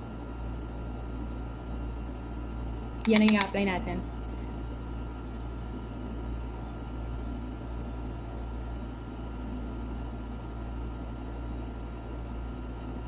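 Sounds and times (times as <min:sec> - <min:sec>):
low room hum with hiss: 0:00.0 - 0:13.0.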